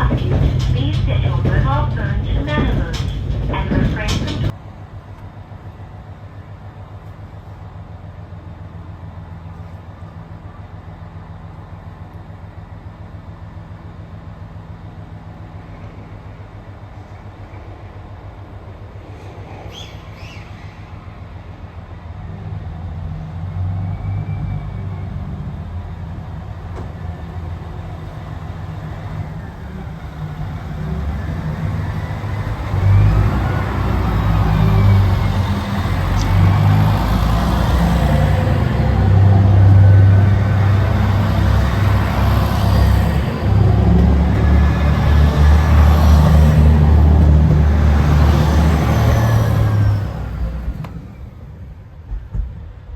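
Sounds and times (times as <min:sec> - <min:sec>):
train rumbling on rails: 0:00.0 - 0:52.9.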